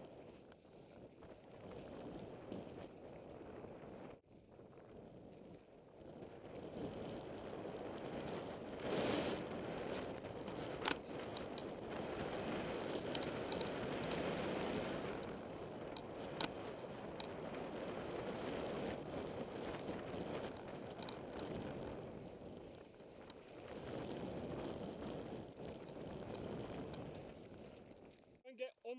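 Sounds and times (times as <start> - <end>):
wind on microphone: 0.0 - 28.4.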